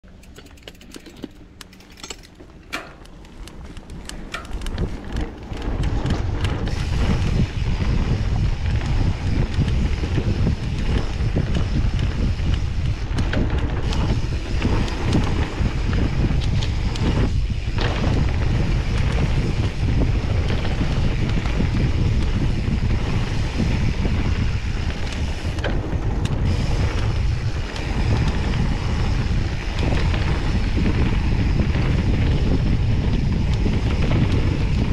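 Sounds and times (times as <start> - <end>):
bike tyres rolling on dirt: 0.0 - 34.9
sharp clicks and rattles: 0.0 - 34.9
wind buffeting microphone: 0.6 - 34.9.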